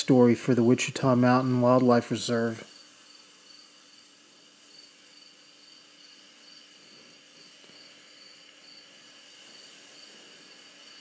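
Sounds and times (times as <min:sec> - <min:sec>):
steady high-pitched buzz: 0:00.0 - 0:11.0
faint insect chirping: 0:01.8 - 0:11.0.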